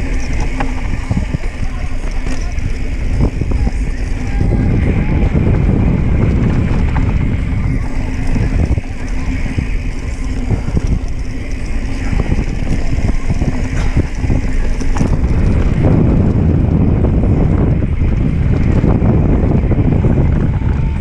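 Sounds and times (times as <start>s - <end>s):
bike rattling over bumps: 0.0s - 21.0s
tyres rumbling over dirt: 0.0s - 21.0s
wind buffeting microphone: 0.0s - 21.0s.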